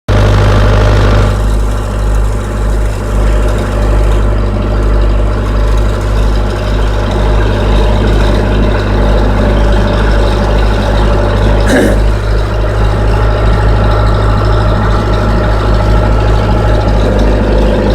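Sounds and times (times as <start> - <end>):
diesel engine low drone: 0.1 - 17.9.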